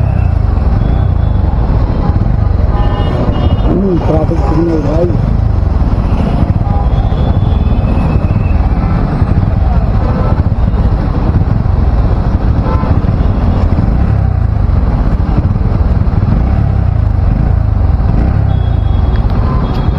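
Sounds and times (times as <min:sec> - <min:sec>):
motorcycle engine rumbling: 0:00.0 - 0:19.9.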